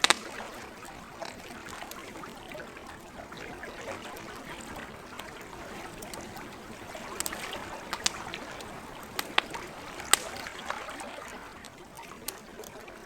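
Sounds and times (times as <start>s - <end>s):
campfire crackling and popping: 0.0s - 13.0s
lake water lapping at shore: 0.0s - 13.0s.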